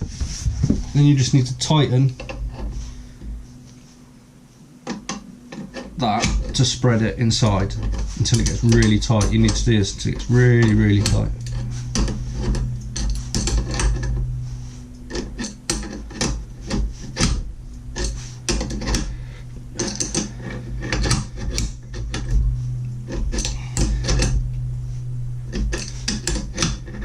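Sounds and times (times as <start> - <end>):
metallic clicking and scraping: 0.0 - 4.1, 4.8 - 27.0
steady low hum: 0.0 - 27.0.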